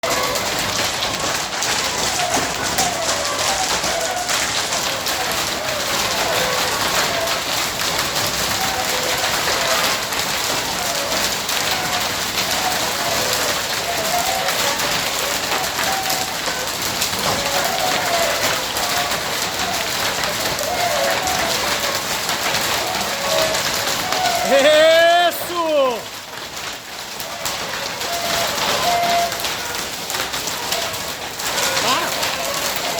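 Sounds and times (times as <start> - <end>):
hailstones clattering: 0.0 - 32.9.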